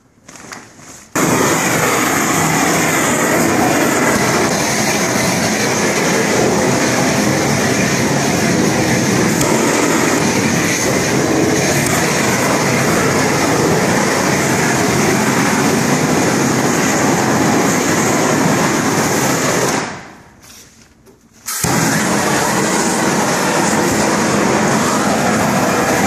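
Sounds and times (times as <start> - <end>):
gas heat gun roaring: 1.1 - 20.2, 21.5 - 26.0.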